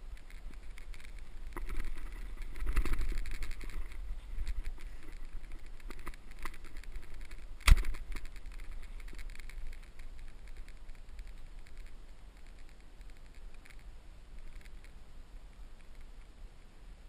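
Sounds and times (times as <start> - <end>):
rustles and taps of gear: 0.0 - 15.0
wind rumbling on microphone: 0.0 - 17.0.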